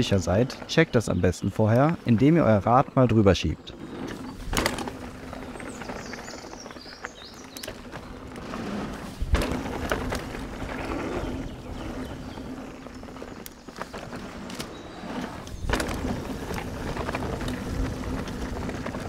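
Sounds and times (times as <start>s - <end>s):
bike tyres rolling on dirt: 0.0s - 19.0s.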